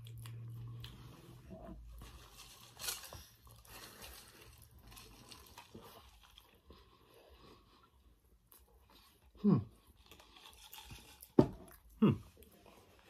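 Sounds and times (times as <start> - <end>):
person chewing a sandwich: 0.0 - 13.0.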